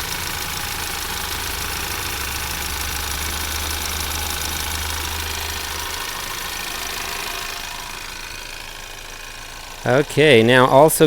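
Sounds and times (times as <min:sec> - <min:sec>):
belt and pulley whir and hiss: 0:00.0 - 0:11.0
car engine idling: 0:00.0 - 0:11.0.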